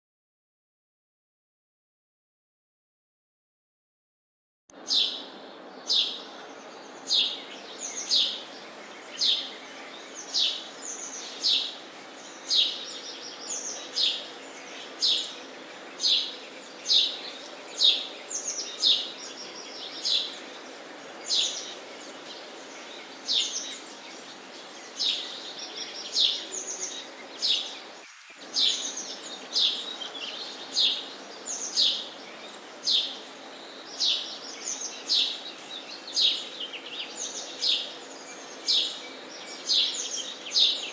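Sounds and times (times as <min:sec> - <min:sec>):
steady background hiss: 0:04.7 - 0:40.9
sparrow chirping: 0:04.8 - 0:40.9.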